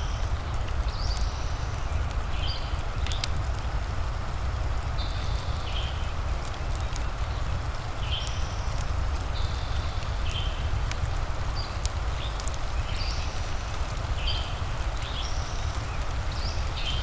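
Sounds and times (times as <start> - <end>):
rain hiss: 0.0 - 17.0
wood fire crackling and popping: 0.0 - 17.0.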